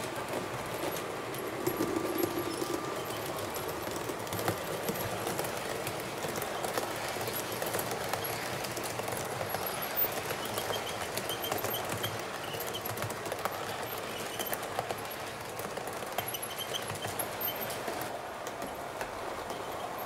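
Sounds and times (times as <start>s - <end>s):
model train wheels clattering: 0.0s - 20.0s.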